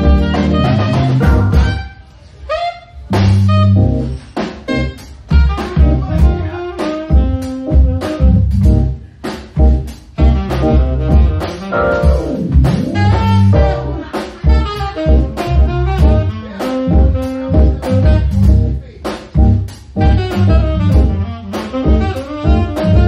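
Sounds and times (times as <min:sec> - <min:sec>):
double bass: 0:00.0 - 0:01.9, 0:03.1 - 0:09.0, 0:09.6 - 0:18.8, 0:19.4 - 0:23.0
saxophone melody: 0:00.0 - 0:09.0, 0:10.2 - 0:18.8, 0:19.4 - 0:23.0
drum kit: 0:00.0 - 0:23.0.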